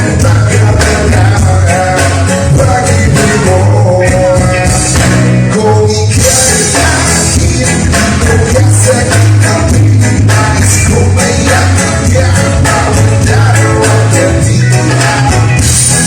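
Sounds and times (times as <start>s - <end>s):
heavy bass beat: 0.0s - 16.0s
loud music with singing: 0.0s - 16.0s.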